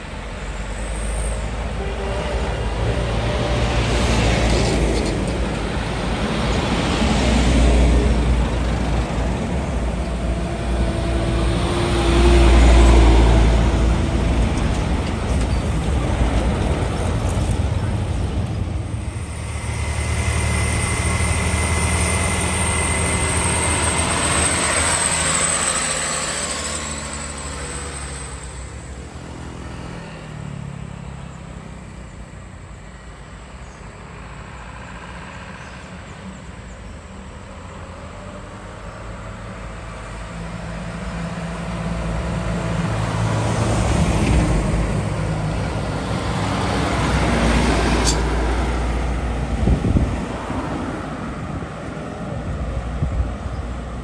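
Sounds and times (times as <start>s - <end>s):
heavy trucks driving past: 0.0s - 54.0s.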